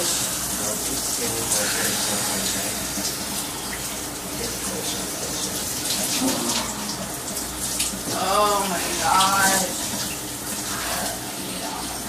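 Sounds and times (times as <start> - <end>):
shower spray running: 0.0 - 12.0.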